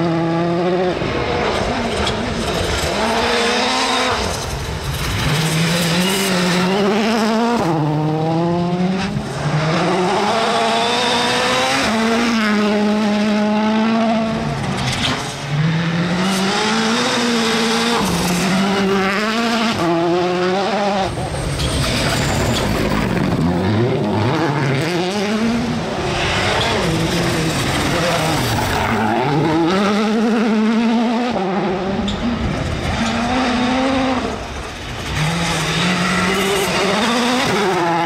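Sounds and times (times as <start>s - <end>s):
rally car engine revving hard: 0.0s - 38.0s.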